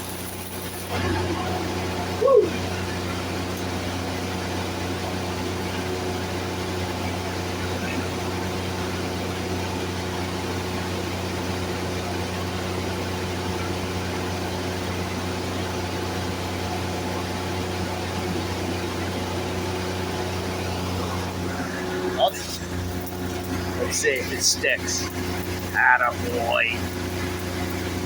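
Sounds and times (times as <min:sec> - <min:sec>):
welding arc crackling and sizzling: 0:00.0 - 0:28.0
welding machine hum: 0:00.0 - 0:28.0.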